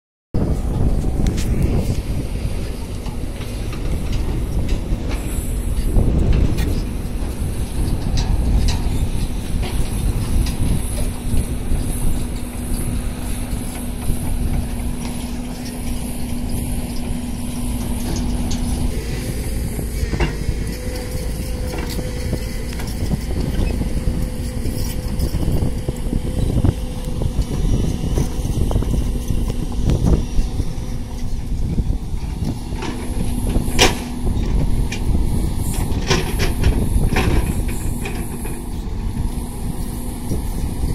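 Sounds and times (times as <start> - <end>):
diesel engines rumbling: 0.4 - 40.9.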